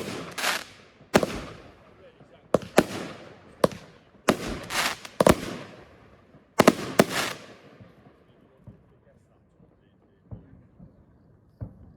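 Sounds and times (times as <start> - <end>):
fireworks bangs with hiss: 0.0 - 8.9, 10.2 - 11.9.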